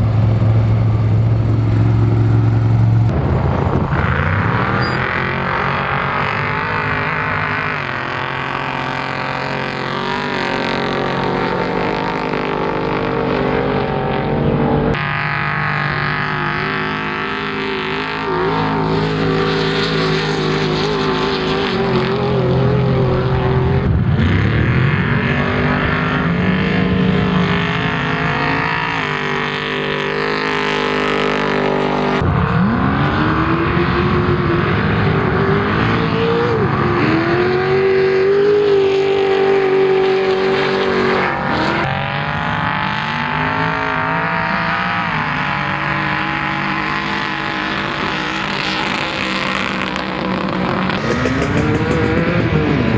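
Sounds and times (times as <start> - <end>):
race vehicle engines revving: 0.0 - 52.9.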